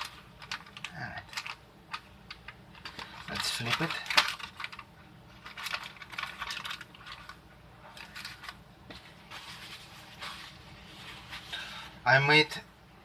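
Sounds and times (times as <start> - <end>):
parchment paper crinkling: 0.0 - 11.8.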